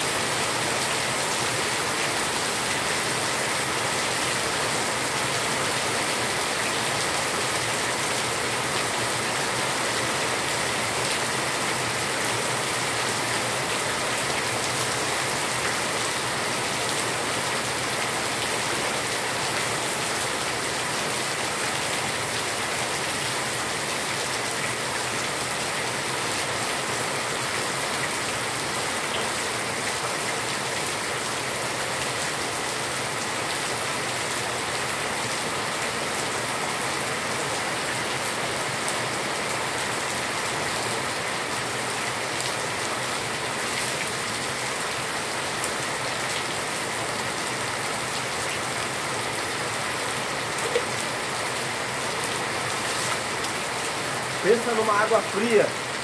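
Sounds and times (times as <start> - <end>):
rain on concrete: 0.0 - 56.0.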